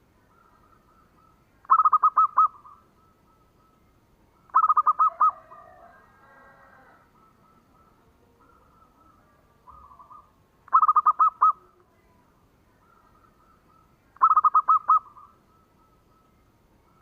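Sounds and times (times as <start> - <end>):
faint jumble of bird calls: 0.0 - 17.0
dove cooing: 0.3 - 3.8, 4.4 - 11.8, 12.8 - 16.3.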